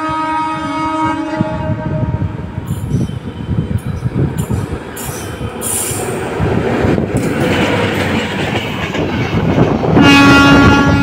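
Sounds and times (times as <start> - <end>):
train passing at speed: 0.0 - 11.0
wheels rumbling on rails: 0.0 - 11.0.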